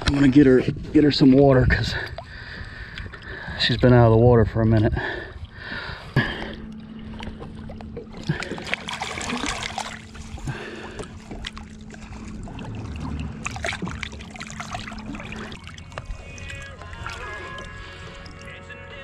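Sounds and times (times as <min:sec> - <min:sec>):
water sloshing and splashing: 0:00.0 - 0:19.0
steady low hum: 0:00.1 - 0:18.9.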